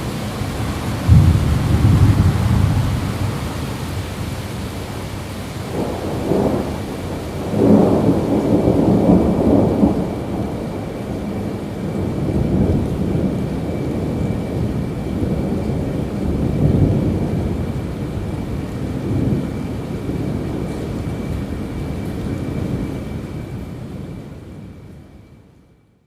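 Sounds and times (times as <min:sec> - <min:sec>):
rolling thunder: 0:00.0 - 0:24.2
steady rain: 0:00.0 - 0:25.8.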